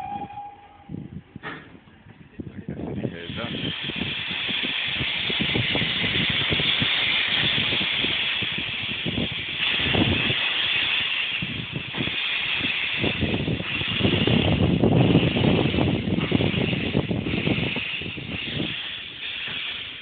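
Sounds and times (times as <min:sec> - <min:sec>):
steam locomotive hissing: 0:00.0 - 0:20.0
wind buffeting microphone: 0:00.0 - 0:20.0.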